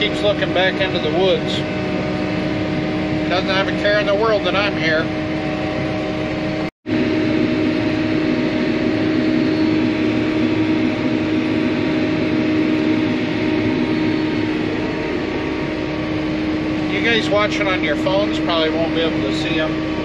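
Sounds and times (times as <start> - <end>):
sprayer engine hum from cab: 0.0 - 20.0.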